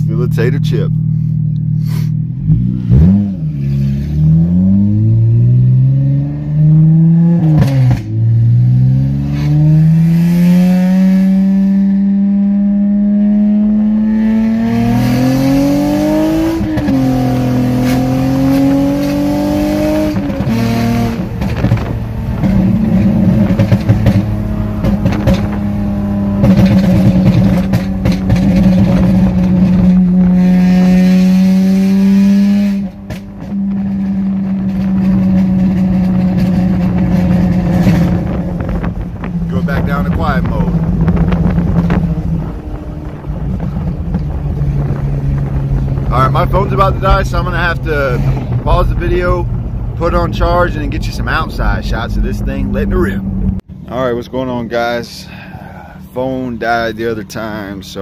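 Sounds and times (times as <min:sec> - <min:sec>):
car engine through loud exhaust: 0:00.0 - 0:58.0.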